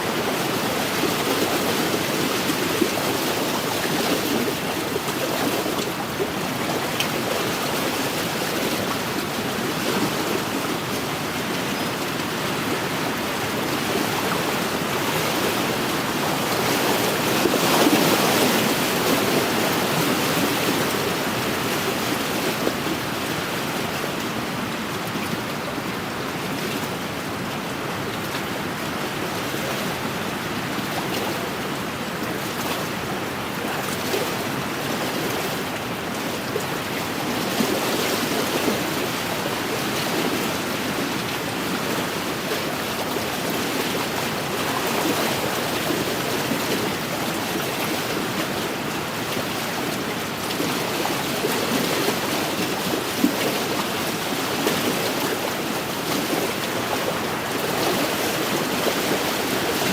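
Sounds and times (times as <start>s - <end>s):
waves washing onto shore: 0.0s - 59.9s
wind: 0.0s - 59.9s.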